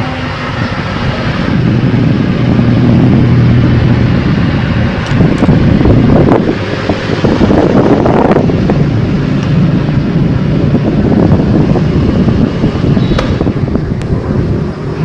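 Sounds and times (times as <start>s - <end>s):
fan air buffeting microphone: 0.0s - 15.0s.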